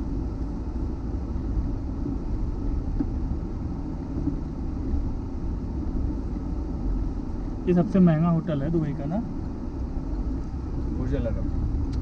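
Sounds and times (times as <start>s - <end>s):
car road rumble from inside: 0.0s - 12.0s.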